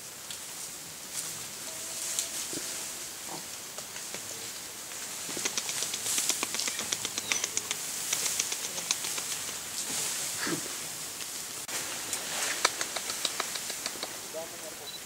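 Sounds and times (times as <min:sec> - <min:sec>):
bamboo leaves rustling and crackling: 0:00.0 - 0:14.8
forest background hiss: 0:00.0 - 0:15.0.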